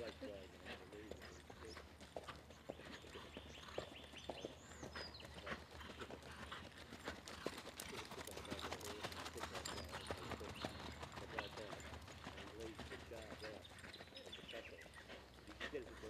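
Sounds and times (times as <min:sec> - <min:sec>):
hoofbeats on sand: 0:00.0 - 0:16.0.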